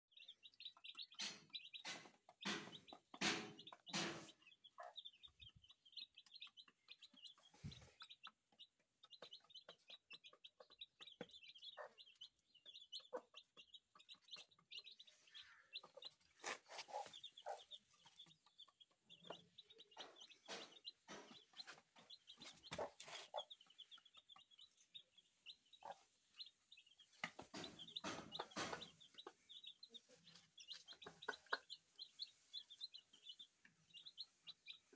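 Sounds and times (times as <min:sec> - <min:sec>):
chicks peeping: 0:00.1 - 0:34.9
hen clucking: 0:00.1 - 0:34.9.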